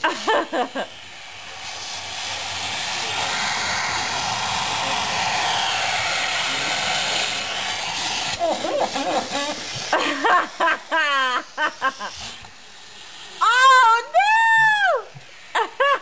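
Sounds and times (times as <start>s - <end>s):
vacuum cleaner motor whirring: 0.0s - 16.0s.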